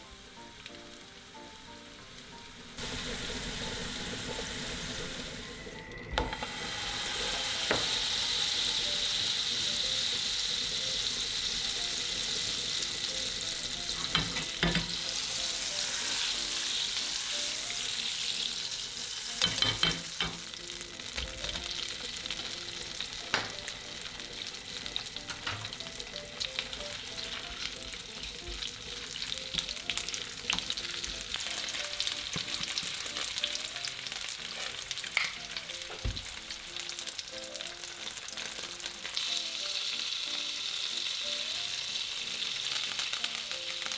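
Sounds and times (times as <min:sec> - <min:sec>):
food sizzling in a frying pan: 0:00.0 - 0:43.9.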